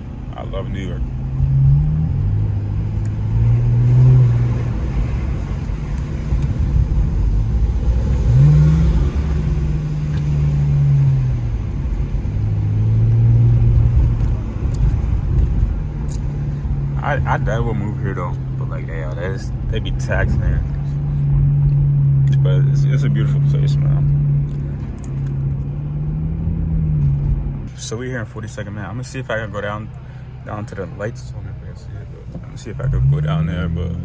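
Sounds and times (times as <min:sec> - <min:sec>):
car exhaust droning: 0:00.0 - 0:34.0.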